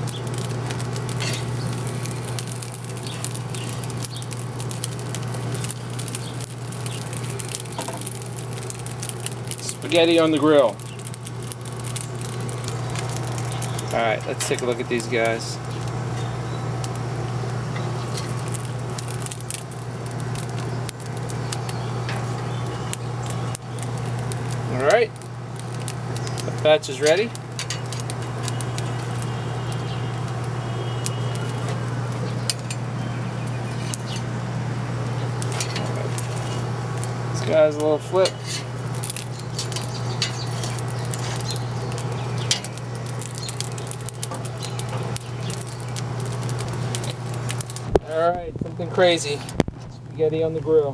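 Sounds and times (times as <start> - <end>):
noodles sizzling on a grill: 0.0 - 50.6
low steady hum: 0.0 - 50.9.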